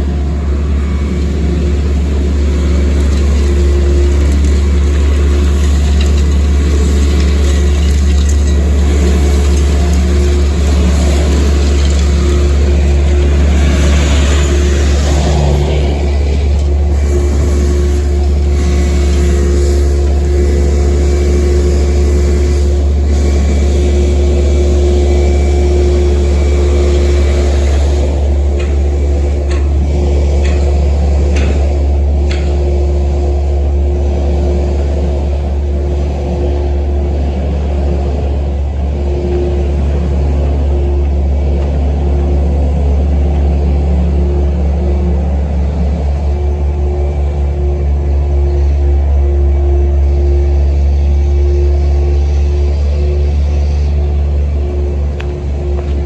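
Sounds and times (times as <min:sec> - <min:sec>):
vehicle driving drone: 0:00.0 - 0:56.0.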